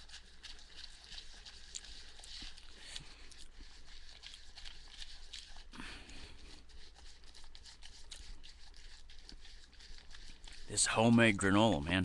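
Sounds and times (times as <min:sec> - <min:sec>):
faint crunching and clicks: 0:00.0 - 0:11.5
utensil stirring granola in bowl: 0:00.0 - 0:12.0.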